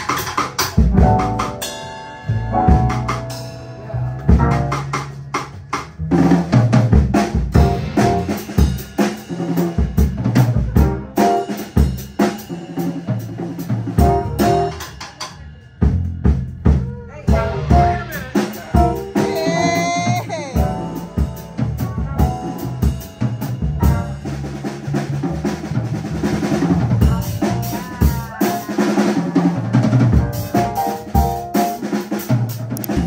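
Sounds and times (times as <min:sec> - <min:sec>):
upright double bass: 0:00.0 - 0:15.0, 0:15.8 - 0:33.0
drum kit playing jazz: 0:00.0 - 0:33.0.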